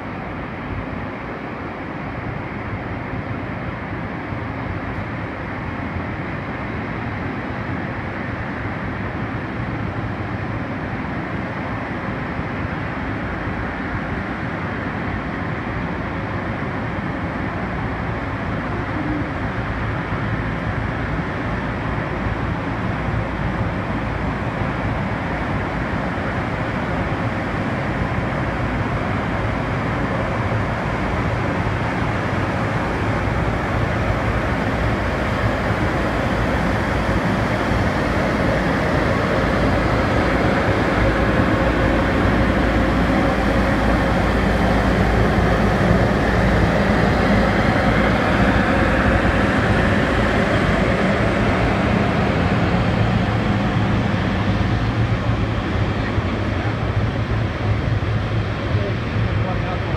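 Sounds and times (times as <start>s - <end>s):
deep locomotive hum: 0.0s - 59.9s
electric locomotive passing: 0.0s - 59.9s.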